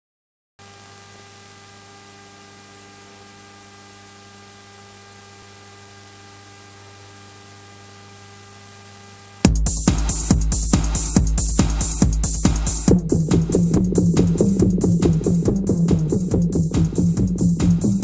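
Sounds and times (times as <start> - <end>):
electrical hum and hiss: 0.6 - 18.0.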